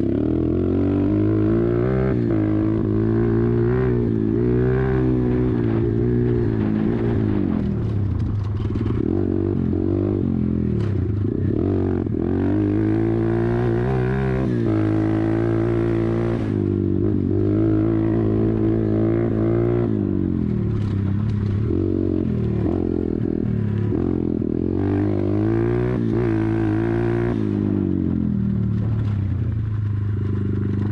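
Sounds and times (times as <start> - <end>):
motorbike engine revving: 0.0 - 30.9.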